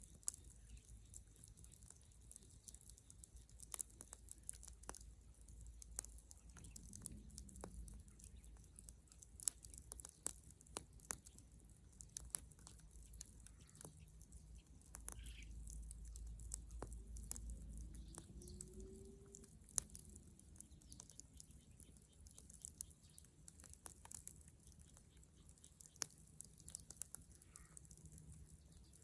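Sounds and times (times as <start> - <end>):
bonfire crackling and popping: 0.0 - 29.0
low fire rumble: 0.0 - 29.0.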